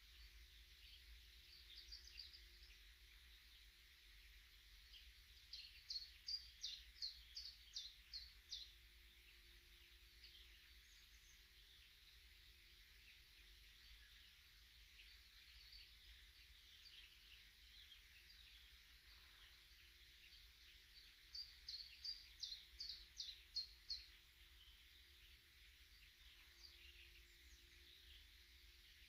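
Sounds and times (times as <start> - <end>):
faint chorus of songbirds: 0.0 - 29.0.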